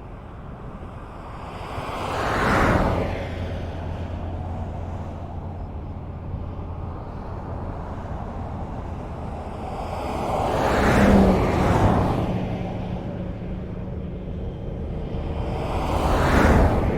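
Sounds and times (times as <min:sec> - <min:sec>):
road traffic rumble: 0:00.0 - 0:16.9
vehicle passing by: 0:01.6 - 0:16.9.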